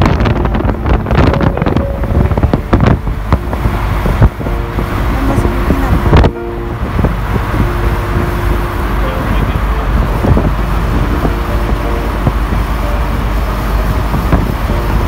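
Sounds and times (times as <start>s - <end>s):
moving car rumble: 0.0s - 15.0s
wind buffeting microphone: 0.0s - 15.0s.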